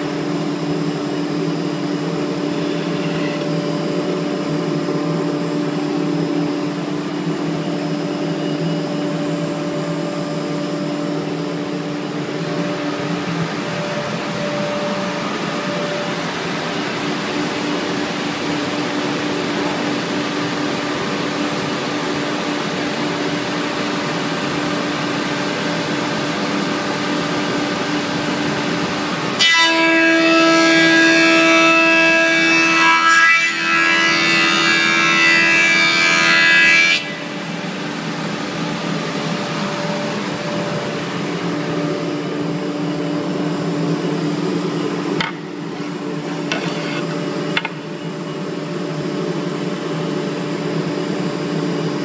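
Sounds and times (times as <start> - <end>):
machine droning: 0.0 - 52.0
machine whine: 0.0 - 52.0.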